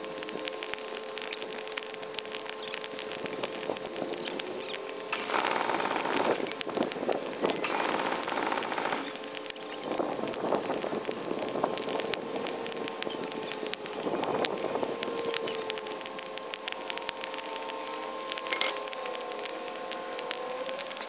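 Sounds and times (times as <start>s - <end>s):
faint steady hum: 0.0s - 21.0s
rushing hiss: 0.0s - 21.0s
wood fire crackling and popping: 0.0s - 21.0s.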